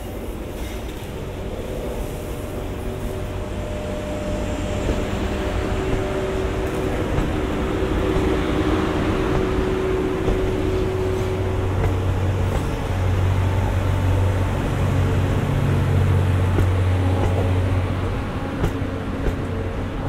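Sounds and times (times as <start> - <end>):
train rushing noise: 0.0 - 20.0.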